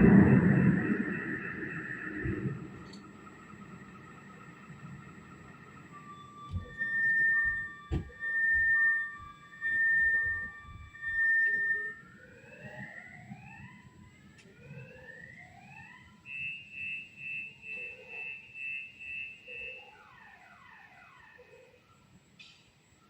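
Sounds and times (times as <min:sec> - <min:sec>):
car alarm: 0:00.0 - 0:23.0.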